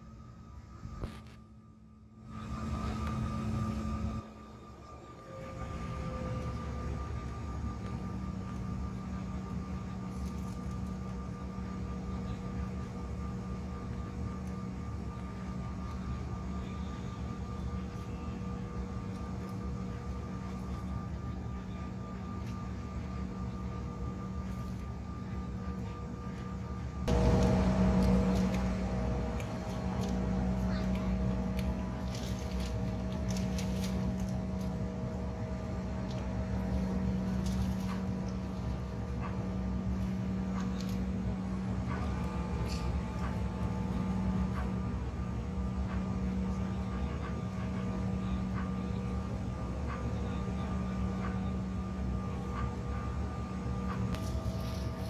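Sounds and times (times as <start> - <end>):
jet engines humming and whining: 0.0 - 55.0.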